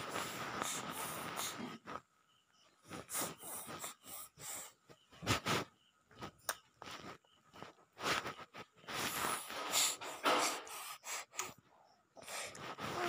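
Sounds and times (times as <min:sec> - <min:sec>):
breathy puffs and snuffles: 0:00.0 - 0:02.0, 0:02.8 - 0:11.6.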